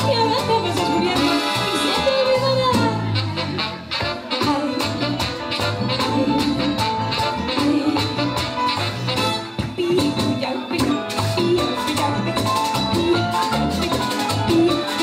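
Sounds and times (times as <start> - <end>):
woman singing into microphone: 0.0 - 3.2, 4.4 - 5.2, 6.0 - 8.5, 9.6 - 15.0
latin dance band playing: 0.0 - 15.0.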